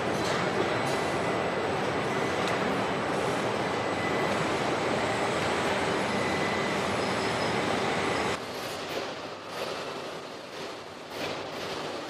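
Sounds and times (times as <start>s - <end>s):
quieter machine noise: 0.0s - 12.0s.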